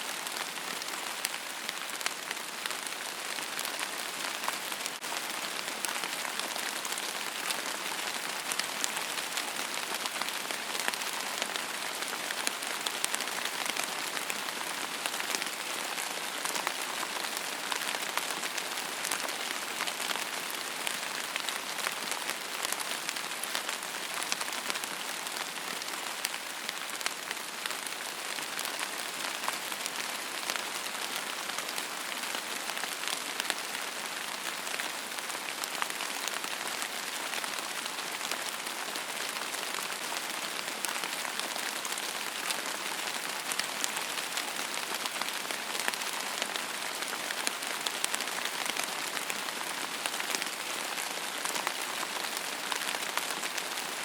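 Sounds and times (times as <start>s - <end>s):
steady rain on a surface: 0.0s - 54.0s.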